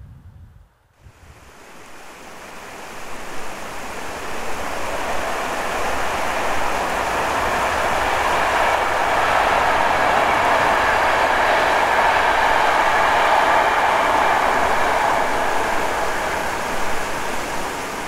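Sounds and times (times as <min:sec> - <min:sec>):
train rushing on rails: 0:01.0 - 0:18.0.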